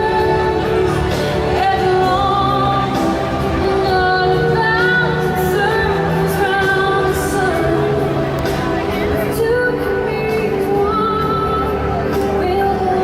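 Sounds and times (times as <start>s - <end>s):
sustained music backing: 0.0s - 13.0s.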